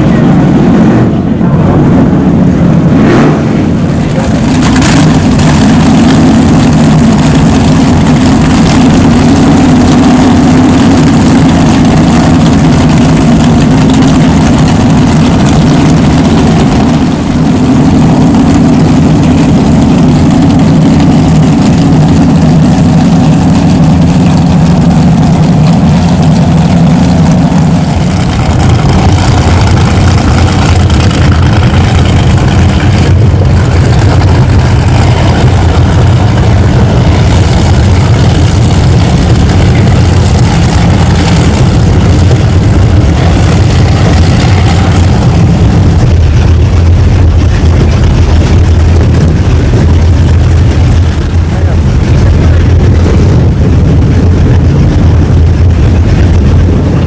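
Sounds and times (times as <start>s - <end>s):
powerboat engines droning: 0.0s - 57.0s.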